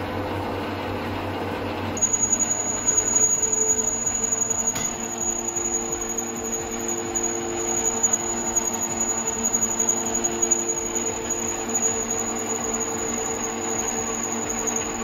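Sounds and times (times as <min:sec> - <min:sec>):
high machine whine: 0:02.0 - 0:15.0
metal lathe humming: 0:02.0 - 0:15.0.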